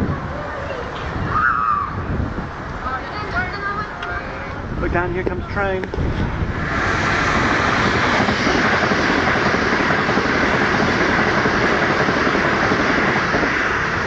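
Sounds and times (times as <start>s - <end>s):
fast train passing: 0.0s - 14.0s.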